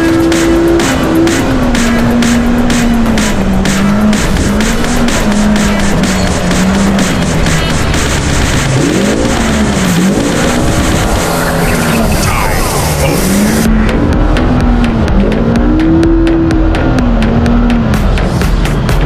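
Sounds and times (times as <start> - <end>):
wind rushing: 0.0 - 18.5
engine revving: 0.0 - 19.0.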